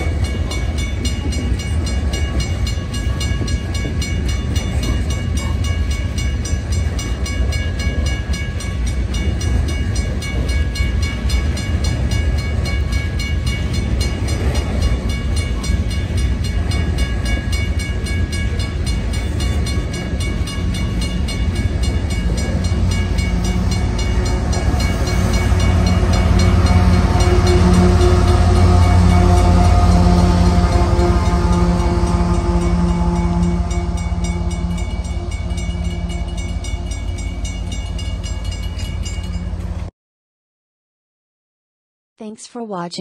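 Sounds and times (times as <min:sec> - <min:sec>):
crossing bell ringing: 0:00.0 - 0:39.9
diesel locomotive engine: 0:00.0 - 0:39.9
train wheels rumbling on rail: 0:00.0 - 0:39.9.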